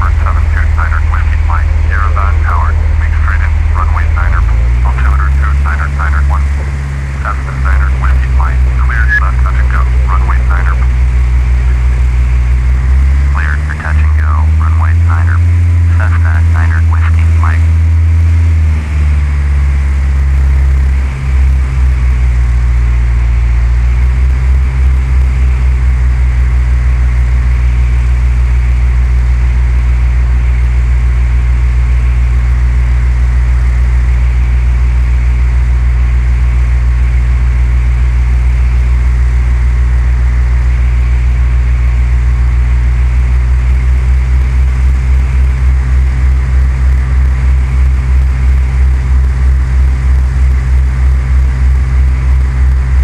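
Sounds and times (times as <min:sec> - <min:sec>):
propeller plane engine droning: 0:00.0 - 0:53.0.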